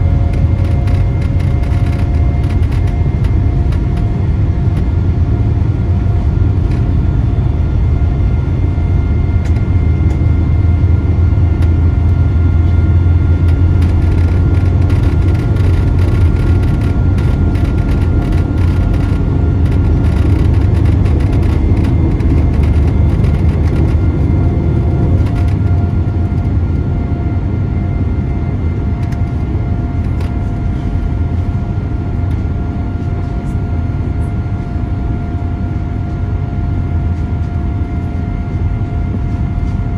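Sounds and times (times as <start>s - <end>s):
airliner cabin low rumble: 0.0s - 39.9s
faint whine: 0.0s - 39.9s.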